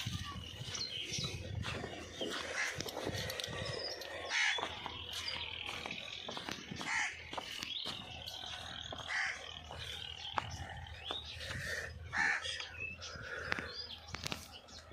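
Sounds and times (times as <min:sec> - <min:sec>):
bird calling: 0:00.2 - 0:14.8.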